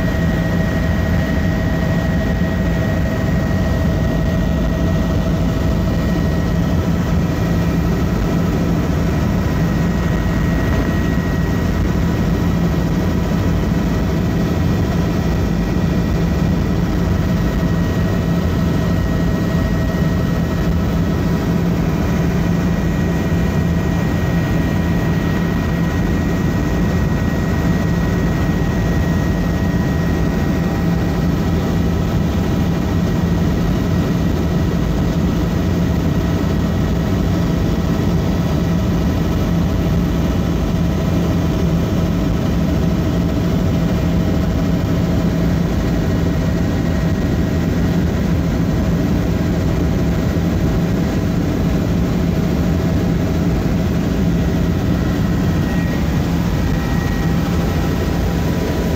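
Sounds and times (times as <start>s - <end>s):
helicopter engine and rotor: 0.0s - 58.9s.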